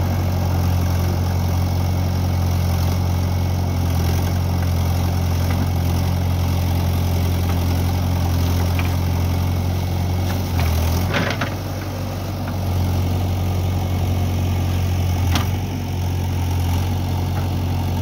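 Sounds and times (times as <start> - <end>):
backhoe diesel engine running: 0.0 - 18.0.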